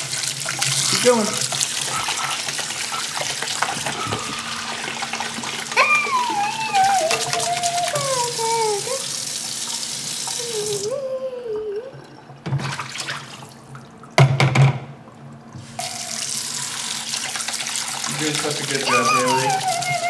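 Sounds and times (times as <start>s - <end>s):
tap water running into sink: 0.0s - 14.9s, 15.5s - 20.0s.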